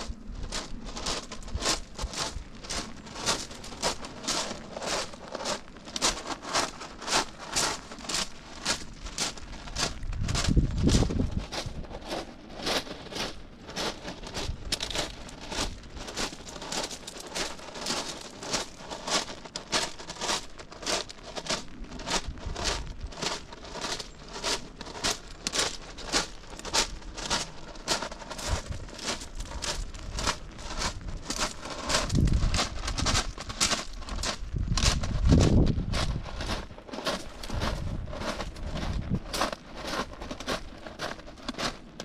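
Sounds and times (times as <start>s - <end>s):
crackly rustle: 0.0s - 42.0s
footsteps on wet pavement: 0.0s - 42.0s.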